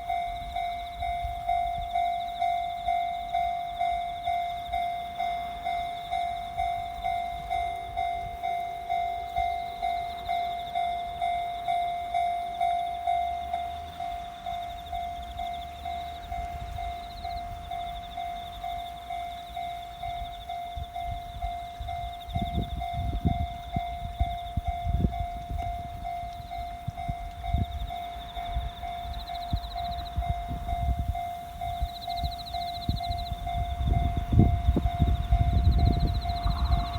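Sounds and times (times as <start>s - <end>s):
level crossing bell ringing: 0.0s - 36.2s
train rumble: 0.0s - 36.9s.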